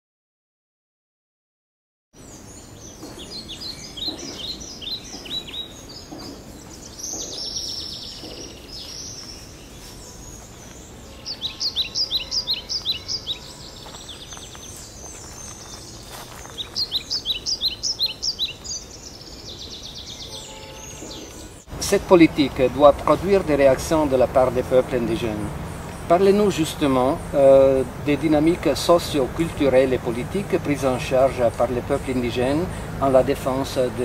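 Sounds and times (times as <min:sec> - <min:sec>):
birds chirping quickly: 0:02.2 - 0:34.0
buzzy bird trill: 0:02.2 - 0:34.0
steady background hiss: 0:02.2 - 0:34.0.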